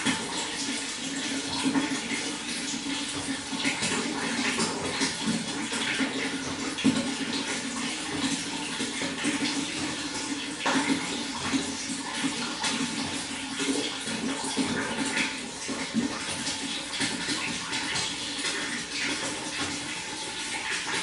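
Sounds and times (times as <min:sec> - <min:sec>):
running water flowing: 0:00.0 - 0:21.0.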